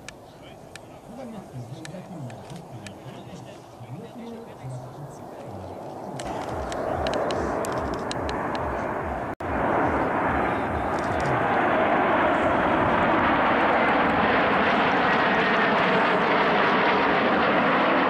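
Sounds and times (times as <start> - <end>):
jets flying past: 0.1 - 18.0.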